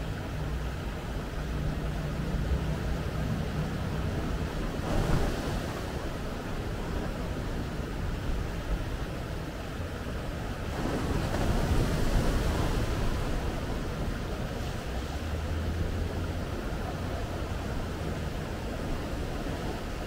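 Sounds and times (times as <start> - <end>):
ocean waves breaking on beach: 0.1 - 20.0.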